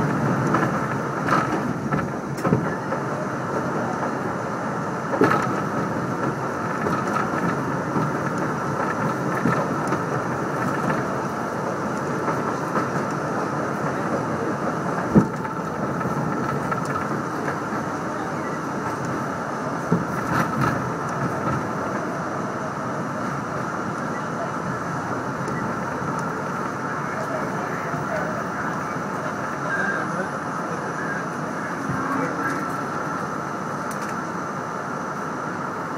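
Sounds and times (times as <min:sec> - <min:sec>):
train rumbling on rails: 0:00.0 - 0:35.9.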